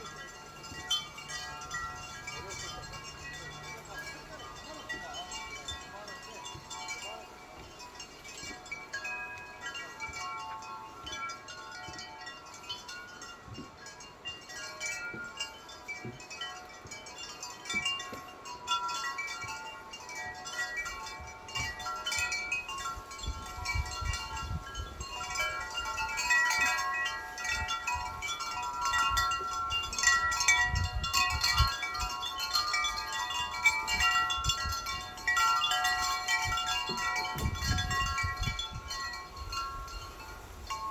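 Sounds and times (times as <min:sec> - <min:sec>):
low wind gusts: 0:00.0 - 0:40.9
wind chimes ringing: 0:00.0 - 0:40.9.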